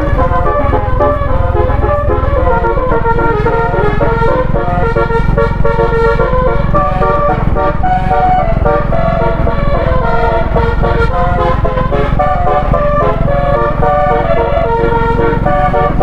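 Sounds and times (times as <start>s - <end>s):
bus melody horn: 0.0s - 16.0s
low engine rumble: 0.0s - 16.0s.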